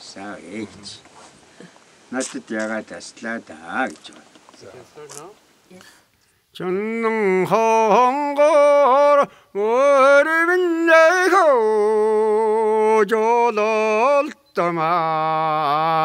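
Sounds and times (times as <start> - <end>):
elderly man singing unaccompanied: 2.0 - 5.5, 6.5 - 16.0.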